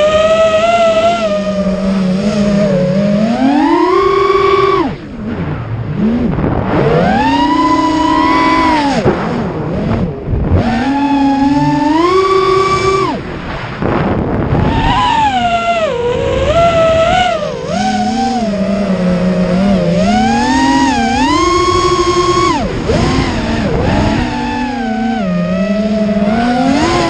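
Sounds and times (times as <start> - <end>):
quadcopter motors whining: 0.0 - 13.4, 14.4 - 27.0.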